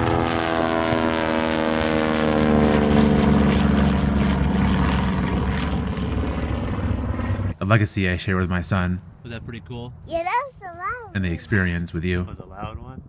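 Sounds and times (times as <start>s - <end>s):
propeller airplane passing: 0.0s - 12.4s.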